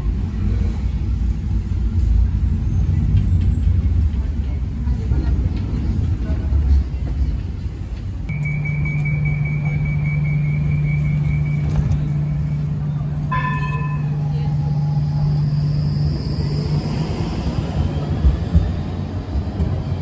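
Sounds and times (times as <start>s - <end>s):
tram electrical hum: 0.0s - 20.0s.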